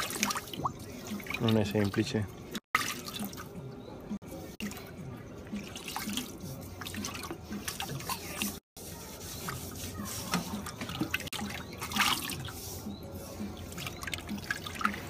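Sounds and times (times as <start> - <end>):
water drips: 0.0 - 8.6, 10.3 - 12.5, 13.4 - 15.0
water sloshing in metal kettle: 0.0 - 8.6, 9.4 - 15.0.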